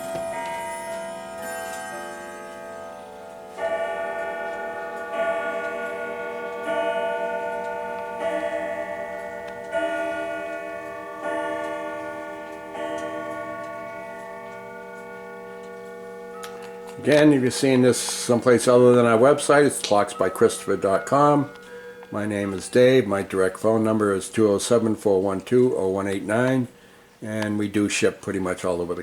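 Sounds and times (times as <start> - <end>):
grandfather clock striking: 0.0 - 26.6
clock ticking: 2.5 - 26.3.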